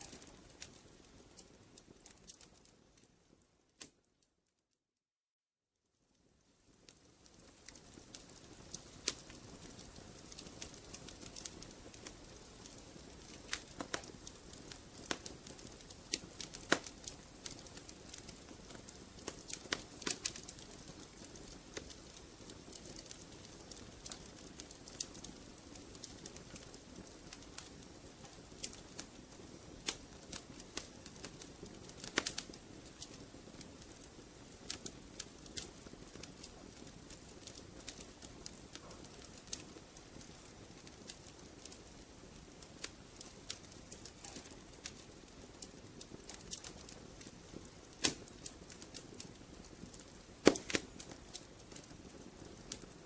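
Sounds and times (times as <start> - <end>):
fire popping: 0.0 - 4.0, 6.2 - 53.0
wood fire crackling: 0.0 - 4.2, 6.0 - 53.0.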